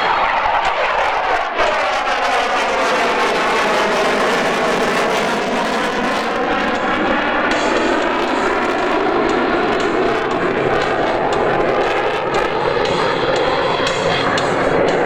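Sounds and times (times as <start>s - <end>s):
loud jet noise: 0.0s - 15.0s.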